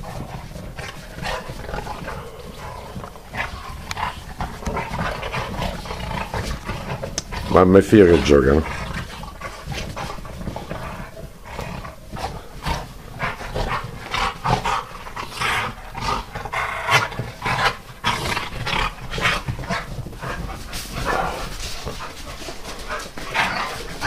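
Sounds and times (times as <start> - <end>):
dogs panting: 0.0 - 24.0
dogs play-fighting noises: 0.0 - 24.0.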